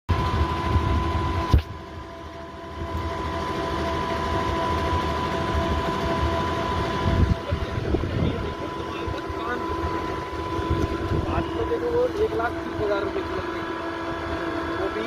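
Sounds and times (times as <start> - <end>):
hoist machinery whining: 0.1 - 15.0.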